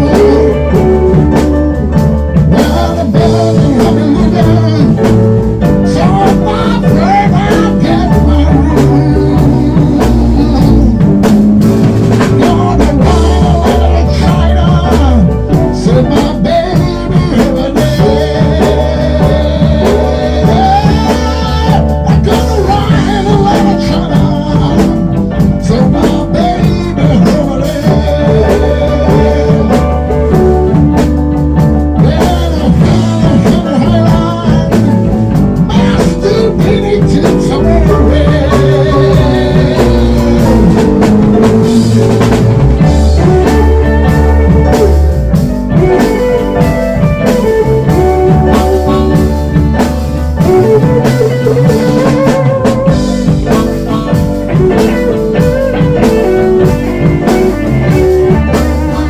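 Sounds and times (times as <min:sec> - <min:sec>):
blues band music: 0:00.0 - 0:59.0.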